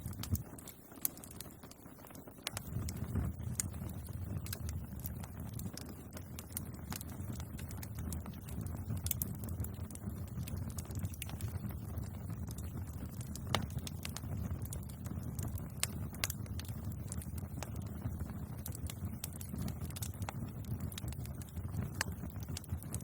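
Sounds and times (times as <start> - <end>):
bonfire crackling and popping: 0.0 - 23.0
low fire rumble: 0.0 - 23.0.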